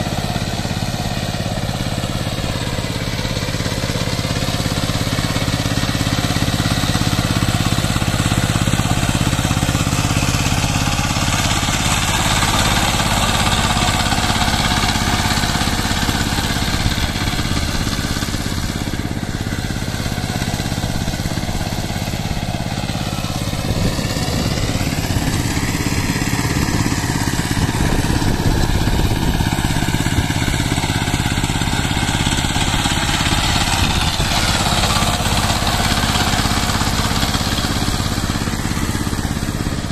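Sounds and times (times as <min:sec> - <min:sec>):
diesel tiller engine running: 0:00.0 - 0:39.9.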